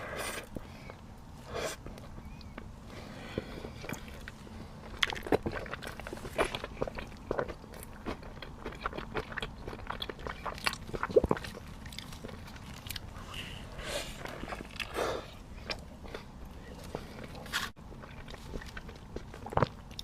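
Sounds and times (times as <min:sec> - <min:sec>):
bread crunching and chewing: 0:01.8 - 0:20.0.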